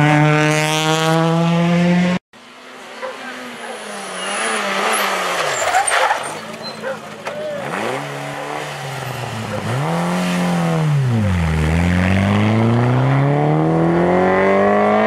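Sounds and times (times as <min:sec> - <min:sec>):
rally car engine revving: 0:00.0 - 0:02.2, 0:03.2 - 0:15.0.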